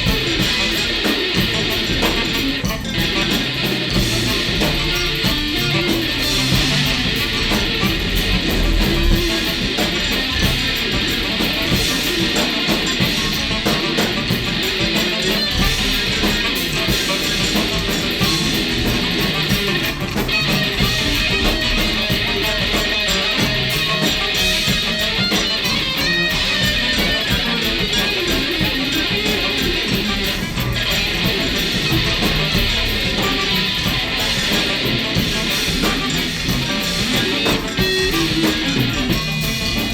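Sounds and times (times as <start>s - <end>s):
electric guitar: 0.0s - 39.9s
free jazz band playing: 0.0s - 39.9s.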